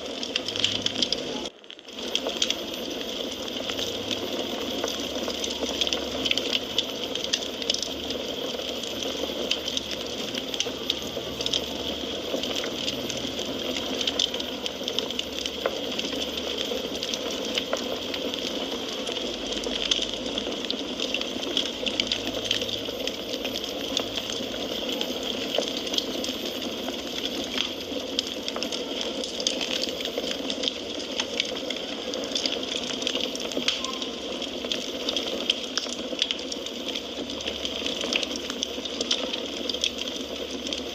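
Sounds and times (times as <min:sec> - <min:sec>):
fire hissing: 0:00.0 - 0:40.9
fire popping and snapping: 0:00.0 - 0:40.9.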